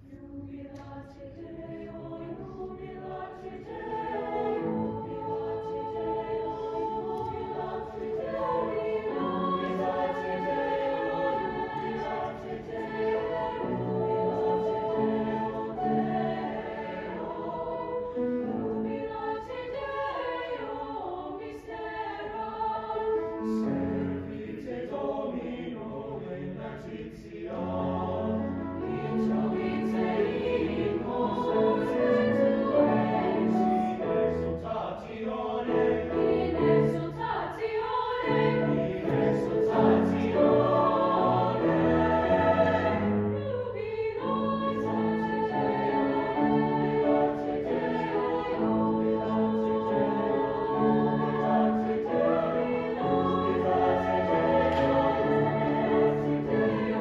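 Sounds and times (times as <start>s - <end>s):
grand piano: 0.0s - 26.0s, 27.0s - 57.0s
choir singing: 0.0s - 57.0s.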